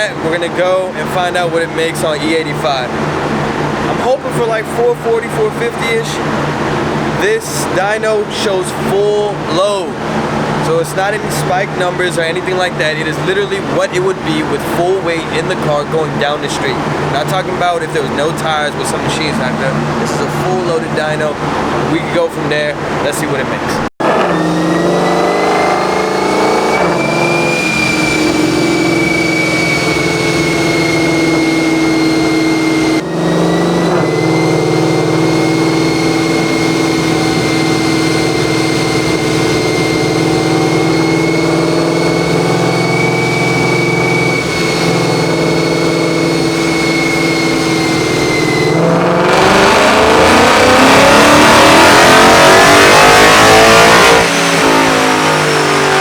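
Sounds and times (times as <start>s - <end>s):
car engine on dyno revving: 0.0s - 56.0s.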